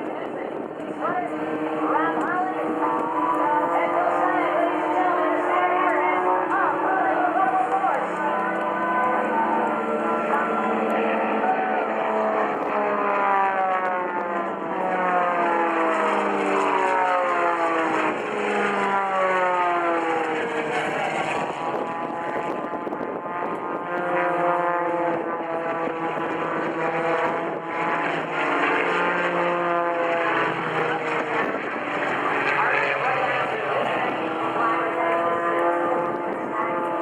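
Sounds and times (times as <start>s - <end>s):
propeller airplanes flying past: 0.0s - 37.0s.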